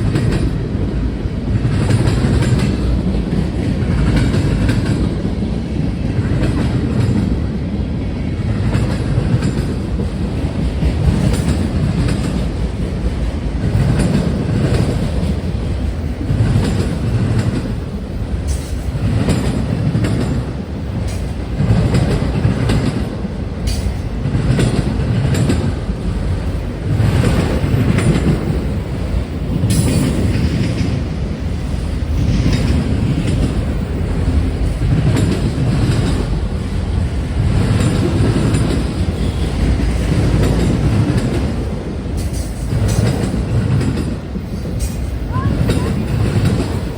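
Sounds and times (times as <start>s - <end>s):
freight train cars rolling past: 0.0s - 46.9s
wheels clickety-clack on rail joints: 0.0s - 46.9s.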